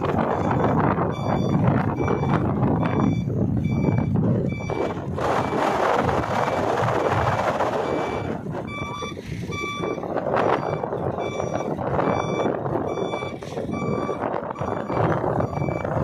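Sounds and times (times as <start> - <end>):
diesel engine running: 0.0 - 16.0
reversing alarm beeping: 0.0 - 16.0.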